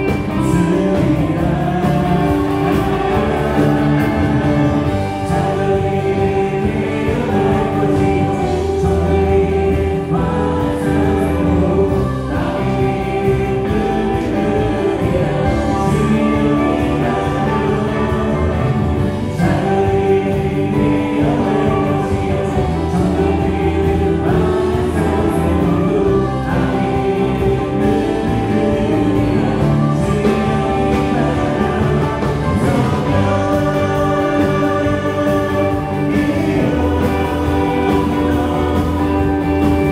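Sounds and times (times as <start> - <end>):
bass guitar: 0.0 - 39.9
choir singing: 0.0 - 39.9
drums: 0.0 - 39.9
electric guitar: 0.0 - 39.9
keyboards: 0.0 - 39.9.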